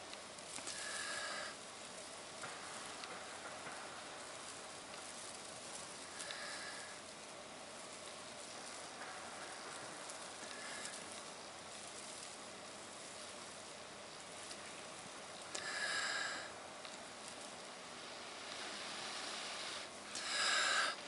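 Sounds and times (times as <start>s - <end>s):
grass crackling: 0.0s - 21.0s.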